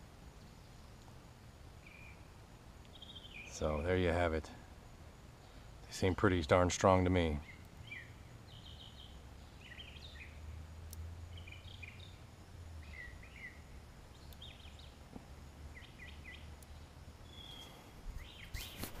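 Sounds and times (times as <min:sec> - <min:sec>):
small birds chirping: 0:00.2 - 0:19.0.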